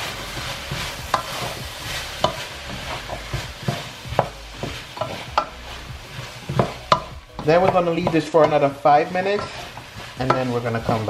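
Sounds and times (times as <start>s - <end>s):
oil sizzling: 0.0s - 11.0s
spoon scraping a pot: 0.1s - 11.0s.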